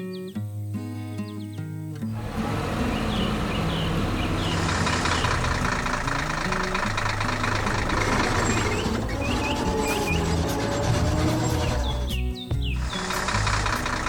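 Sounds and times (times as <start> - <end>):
birds chirping: 0.0 - 14.0
heavy machine engine running: 2.1 - 14.0
background music: 2.2 - 14.0.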